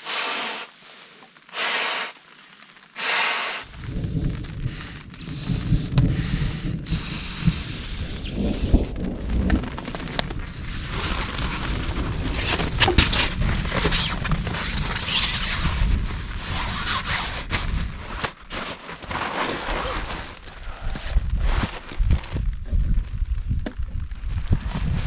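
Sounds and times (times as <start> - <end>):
rain beating on a tarp: 0.0 - 25.0
gusting wind: 3.0 - 25.0.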